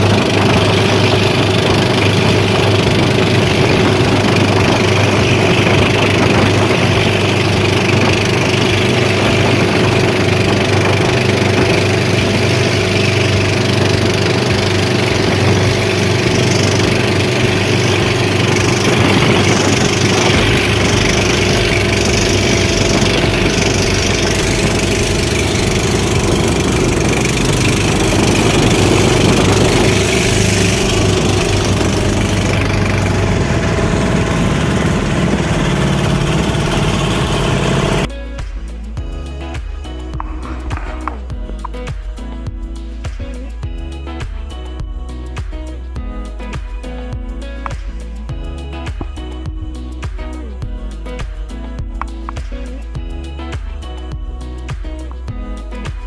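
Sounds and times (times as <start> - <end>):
motor engine running: 0.0 - 56.0.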